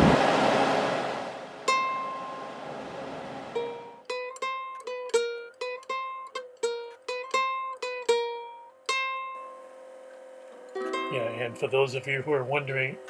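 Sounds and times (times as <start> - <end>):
plucked string instrument: 1.6 - 13.0.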